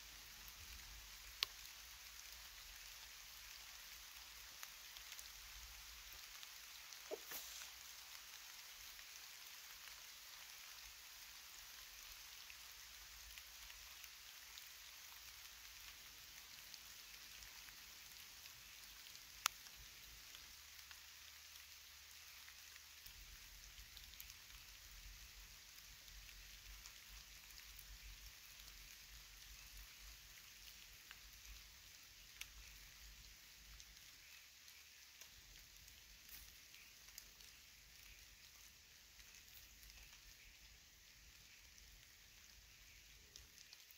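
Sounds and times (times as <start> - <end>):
faint forest hiss: 0.0 - 43.9
small ticks: 0.2 - 43.9.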